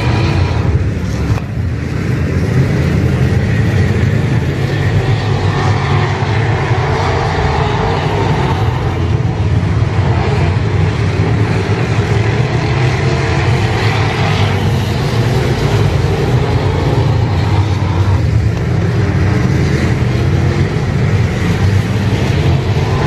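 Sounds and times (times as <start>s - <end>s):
race car engines roaring: 0.0s - 23.0s.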